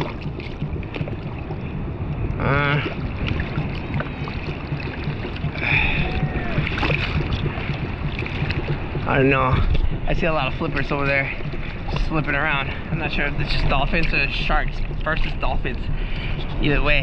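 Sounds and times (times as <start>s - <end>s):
seawater sloshing and splashing: 0.0s - 17.0s
wind on microphone: 0.0s - 17.0s.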